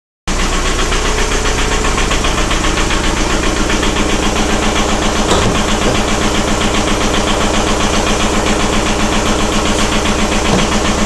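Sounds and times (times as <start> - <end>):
diesel engine knocking: 0.3 - 11.0.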